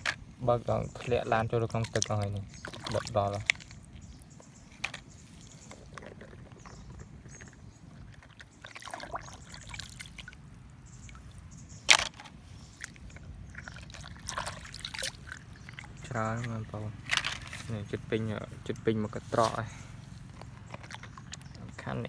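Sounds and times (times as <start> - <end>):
water sloshing and splashing: 0.0 - 22.0.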